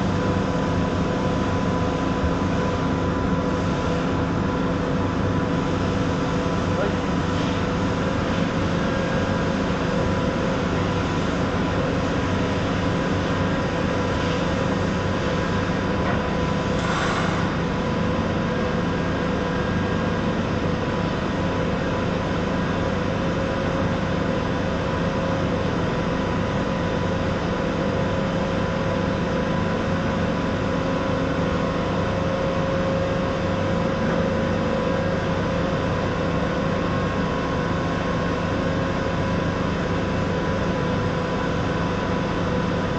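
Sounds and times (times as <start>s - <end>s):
welding machine humming and hissing: 0.0s - 42.9s.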